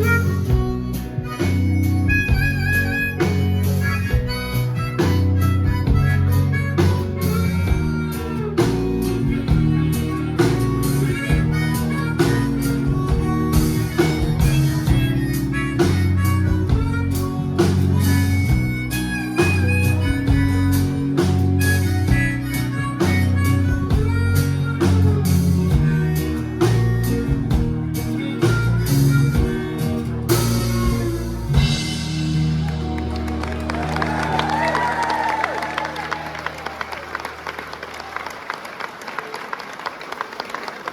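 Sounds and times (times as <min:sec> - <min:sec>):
harmonica solo: 0:00.0 - 0:36.7
live blues rock band: 0:00.0 - 0:37.0.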